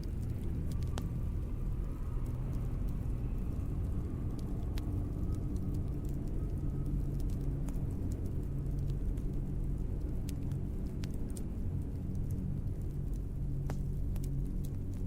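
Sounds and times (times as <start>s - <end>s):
fire low rumble: 0.0s - 15.0s
logs crackling and popping: 0.0s - 15.0s.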